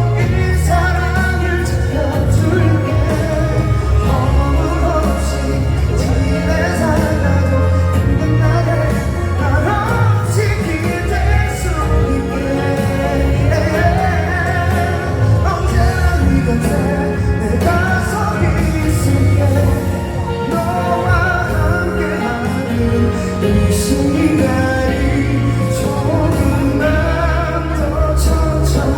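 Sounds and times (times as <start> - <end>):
man singing: 0.0 - 28.9
pop-rock song over sound system: 0.0 - 28.9.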